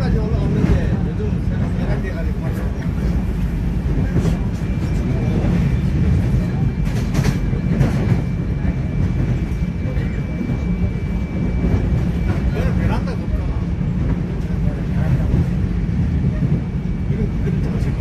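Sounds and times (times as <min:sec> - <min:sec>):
train rumbling over bridge: 0:00.0 - 0:18.0.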